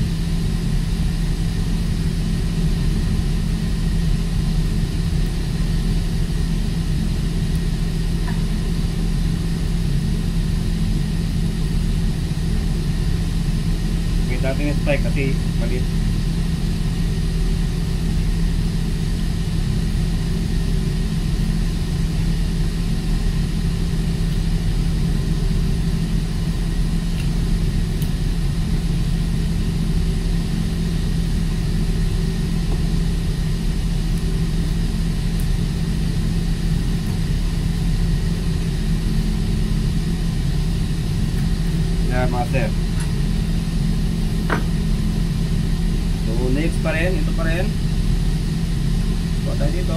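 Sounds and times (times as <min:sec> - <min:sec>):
ship machinery drone: 0:00.0 - 0:49.9.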